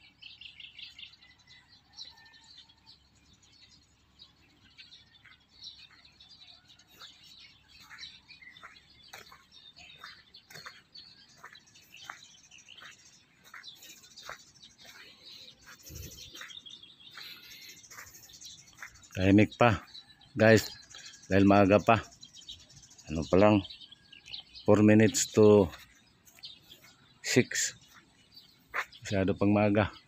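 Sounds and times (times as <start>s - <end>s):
faint bird chirps: 0.0s - 30.0s
high bird twittering: 3.5s - 30.0s.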